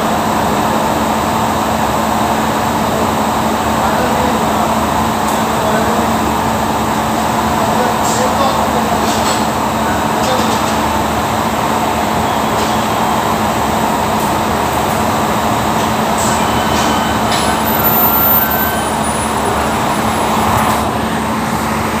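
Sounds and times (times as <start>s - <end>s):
factory machinery running: 0.0s - 22.0s.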